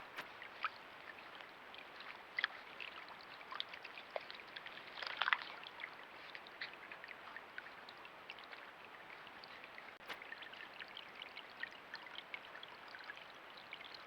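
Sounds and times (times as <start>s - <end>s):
water splashes and drips: 0.0s - 14.0s.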